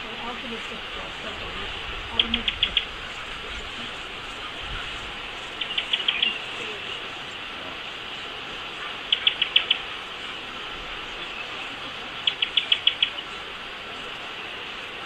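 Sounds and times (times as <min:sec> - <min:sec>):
bird calling: 0:00.0 - 0:15.0
steady high hiss: 0:00.0 - 0:15.0.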